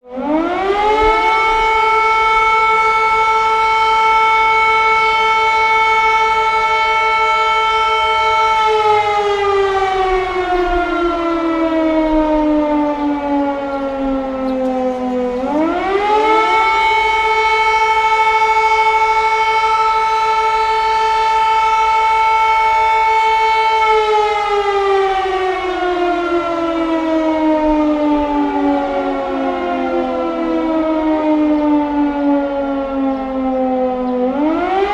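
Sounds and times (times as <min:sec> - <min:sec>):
air raid siren wailing: 0:00.0 - 0:34.9.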